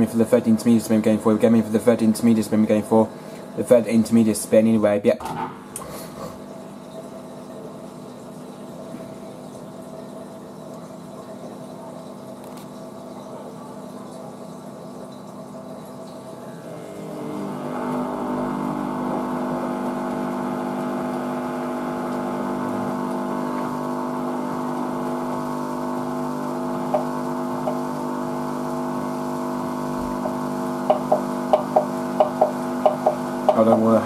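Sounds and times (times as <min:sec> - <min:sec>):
washing machine spin whine: 0:00.0 - 0:34.0.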